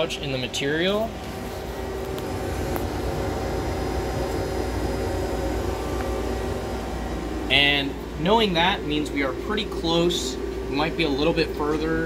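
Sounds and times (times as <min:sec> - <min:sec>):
lathe machine hum: 0:00.0 - 0:12.0.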